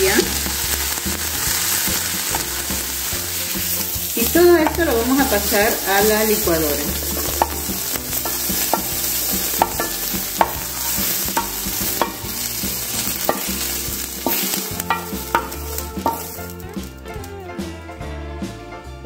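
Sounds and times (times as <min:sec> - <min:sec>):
wooden spoon scraping a pan: 0:00.0 - 0:17.0
greens sizzling: 0:00.0 - 0:17.4.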